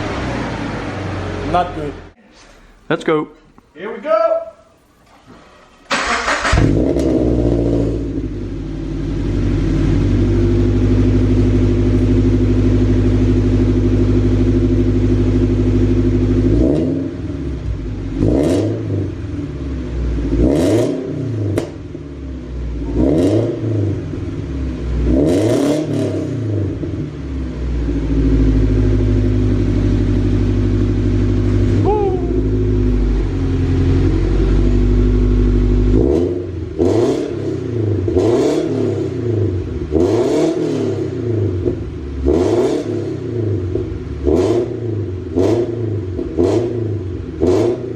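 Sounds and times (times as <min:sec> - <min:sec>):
car engine revving: 0:00.0 - 0:03.6, 0:04.8 - 0:47.9
car engine starting and idling: 0:00.0 - 0:47.9.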